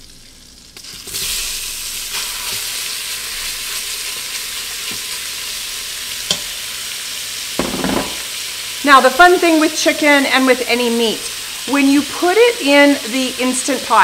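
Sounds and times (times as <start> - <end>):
chicken sizzling in butter: 0.0 - 14.0.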